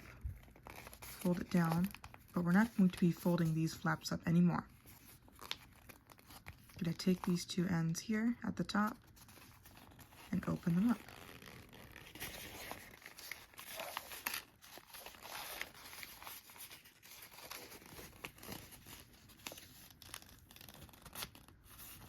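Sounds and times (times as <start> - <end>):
paper rustling and crinkling: 0.0 - 7.6, 8.8 - 22.0.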